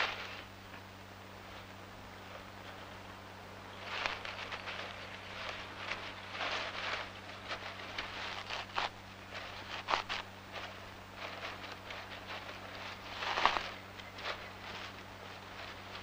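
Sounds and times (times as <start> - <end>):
rustling of dry grass and twigs: 0.0 - 16.0
steady low hum: 0.0 - 16.0.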